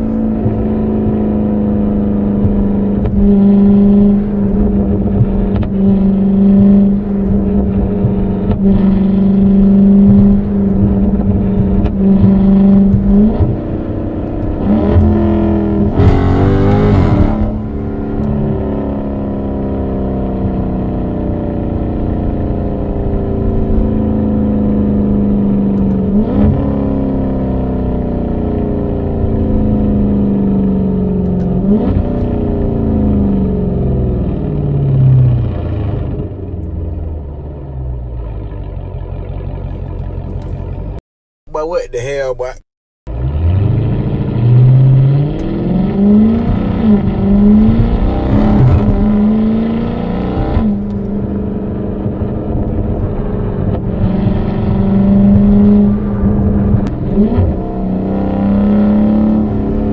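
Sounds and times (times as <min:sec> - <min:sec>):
car engine revving: 0:00.0 - 0:59.9
car exhaust drone: 0:00.0 - 0:59.9.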